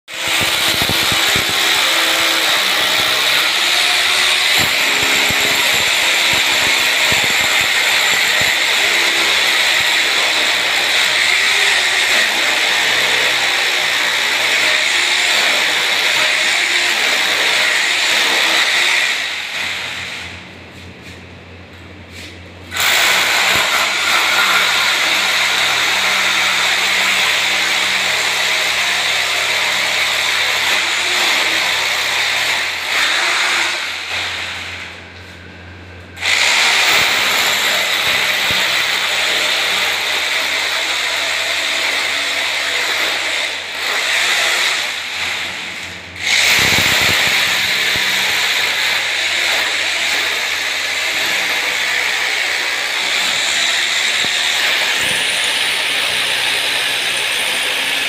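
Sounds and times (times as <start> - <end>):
power drill boring into tile: 0.2 - 19.9, 22.7 - 34.7, 36.2 - 45.5, 46.2 - 58.0.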